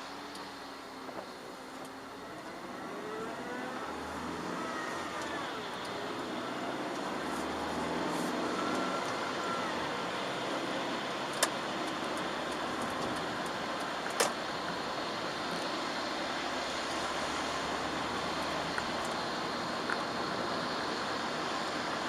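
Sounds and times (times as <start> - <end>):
low engine hum: 0.0 - 22.0
tyres hissing on wet road: 0.0 - 22.0.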